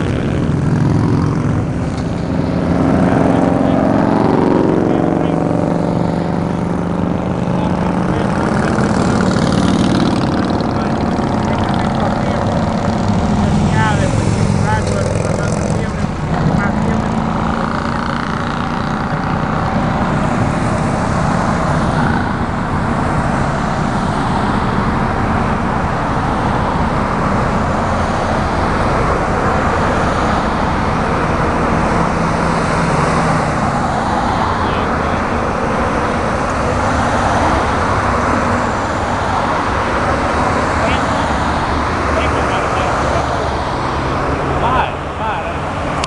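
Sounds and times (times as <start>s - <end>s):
cars driving past: 0.0s - 46.0s.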